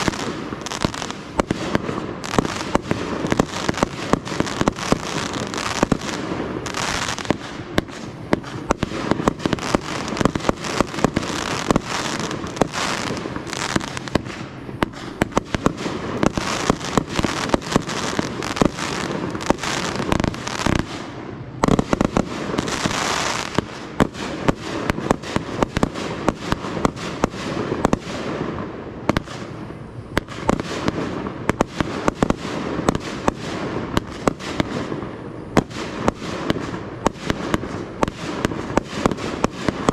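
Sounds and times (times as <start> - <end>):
fireworks bangs: 0.0 - 39.9
fireworks crackling hiss: 0.0 - 39.9.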